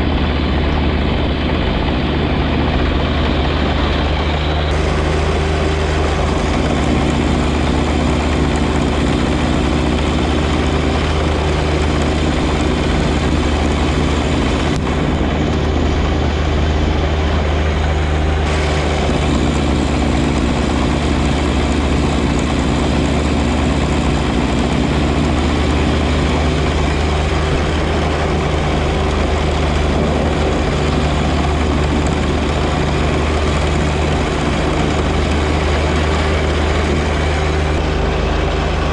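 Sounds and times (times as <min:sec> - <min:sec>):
snow blower rushing hiss: 0:00.0 - 0:38.9
tractor engine drone: 0:00.0 - 0:38.9.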